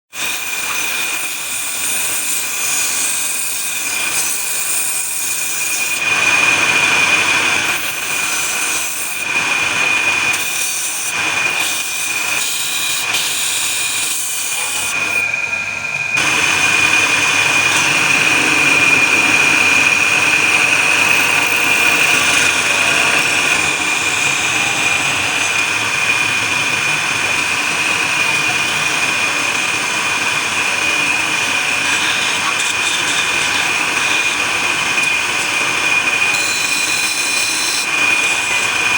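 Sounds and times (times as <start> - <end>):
turning tool cutting wood: 0.1 - 38.9
wood lathe whine: 0.1 - 38.9.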